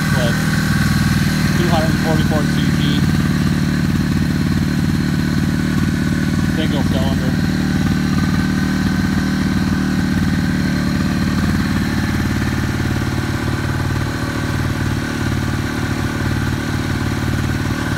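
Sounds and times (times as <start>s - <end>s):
snowmobile engine idling: 0.0s - 17.9s.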